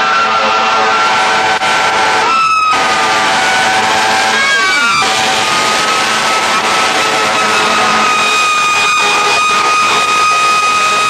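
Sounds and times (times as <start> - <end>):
air horns: 0.0 - 11.0
fire truck sirens: 0.0 - 11.0.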